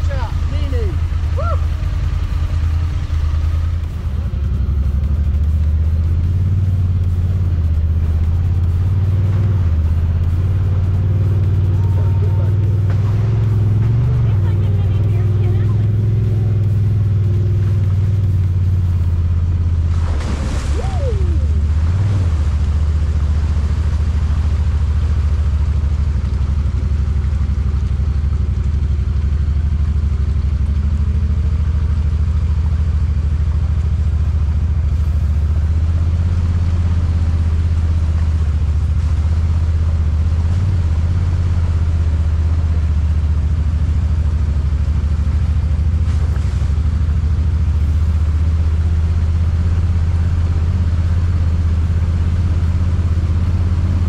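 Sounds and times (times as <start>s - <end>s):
utility vehicle engine drone: 0.0s - 54.0s.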